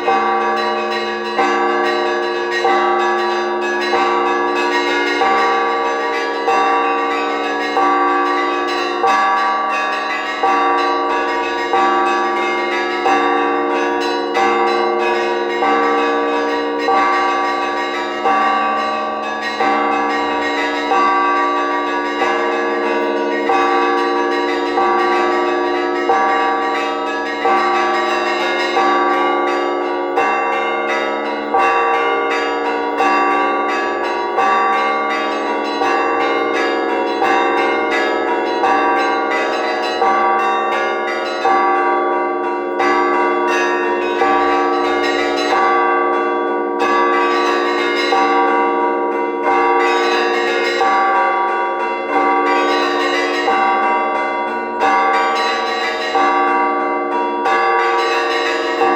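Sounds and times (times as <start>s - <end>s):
heavy bell strikes: 0.0s - 58.9s
small bells chiming rapidly: 0.0s - 58.9s.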